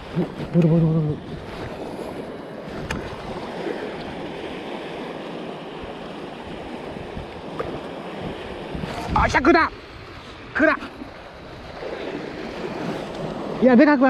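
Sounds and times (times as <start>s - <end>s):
waves lapping: 0.0s - 14.0s
wind buffeting microphone: 0.0s - 14.0s.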